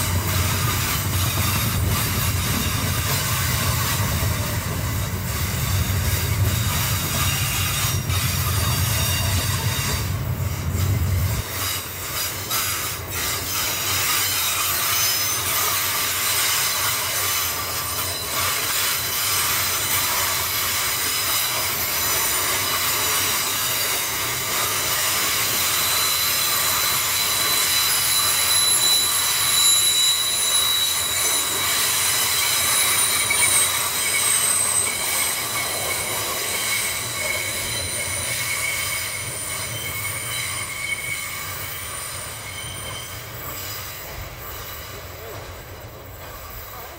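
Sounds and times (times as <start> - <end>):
train wagons rolling on rails: 0.0 - 46.9
wheel squeal: 0.0 - 46.9.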